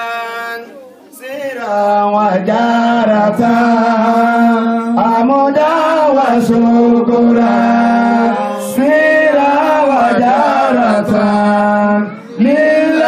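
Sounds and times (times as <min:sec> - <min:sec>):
man chanting through loudspeaker: 0:00.0 - 0:13.0.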